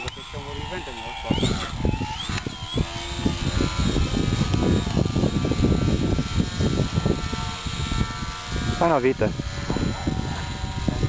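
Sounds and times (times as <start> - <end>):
model airplane propeller whirring: 0.0 - 11.0
wind buffeting microphone: 0.0 - 11.0.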